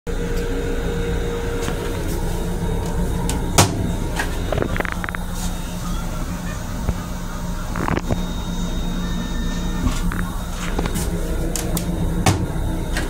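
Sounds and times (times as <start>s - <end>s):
railcar rumble and hum: 0.1s - 13.0s.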